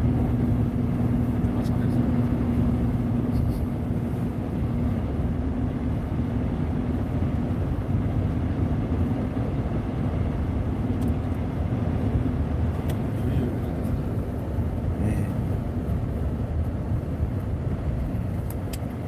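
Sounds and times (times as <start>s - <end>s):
car road and engine rumble: 0.0s - 19.0s
low hum: 0.0s - 19.0s.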